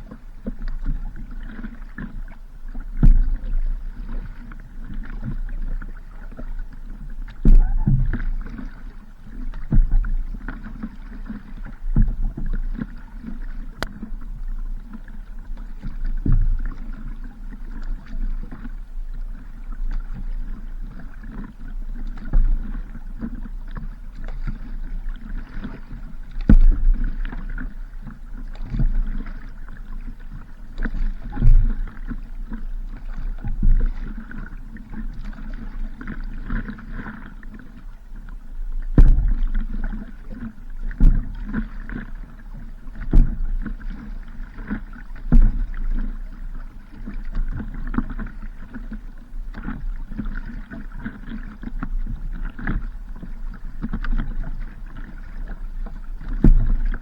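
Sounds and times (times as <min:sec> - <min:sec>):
paddle knocking and splashing: 0:00.0 - 0:57.0.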